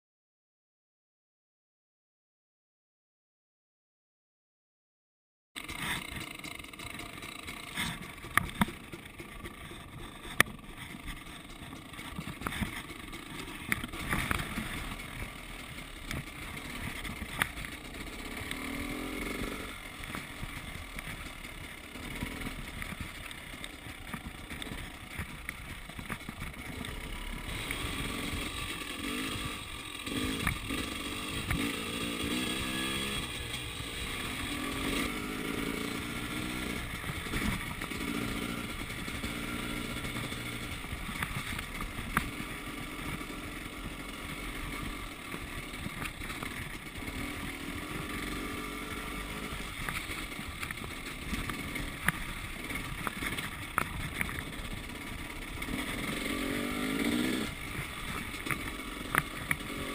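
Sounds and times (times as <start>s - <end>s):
dirt bike engine revving: 5.6s - 59.9s.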